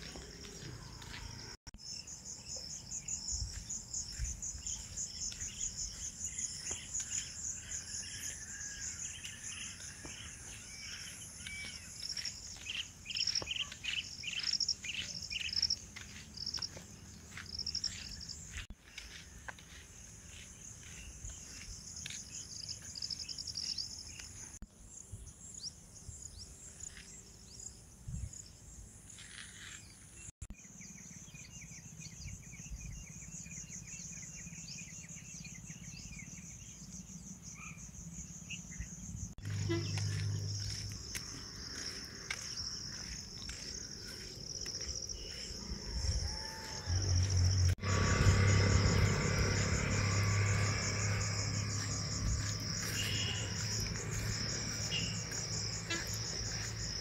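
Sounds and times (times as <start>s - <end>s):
insects trilling: 0.0s - 24.6s, 30.9s - 57.0s.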